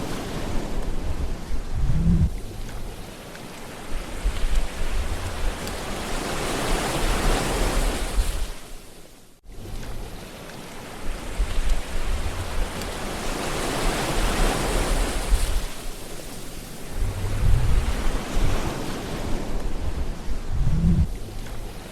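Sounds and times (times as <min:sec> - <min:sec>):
waves breaking on shore: 0:00.0 - 0:21.9.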